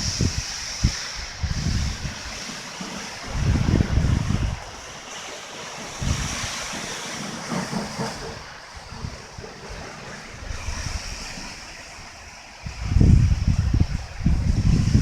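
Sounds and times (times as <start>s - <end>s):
strong wind hissing: 0.0s - 15.0s
wind buffeting microphone: 0.0s - 15.0s.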